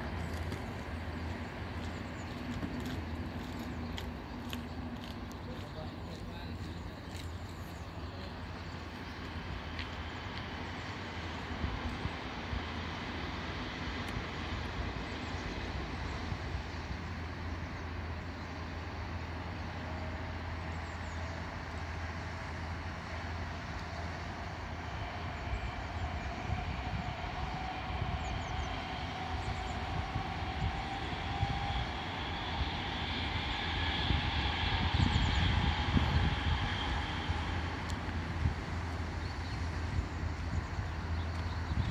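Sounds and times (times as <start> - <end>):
distant engines and city traffic: 0.0 - 41.9
faint rising whine: 0.0 - 41.9.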